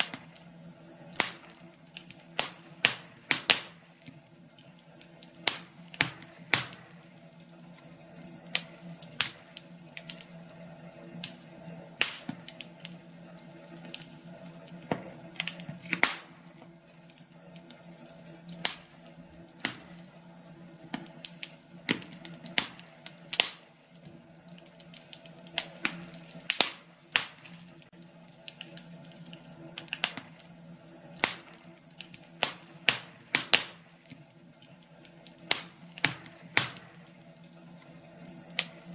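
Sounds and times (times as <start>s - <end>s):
low hiss of burning logs: 0.0s - 38.9s
wood fire crackling: 0.0s - 38.9s.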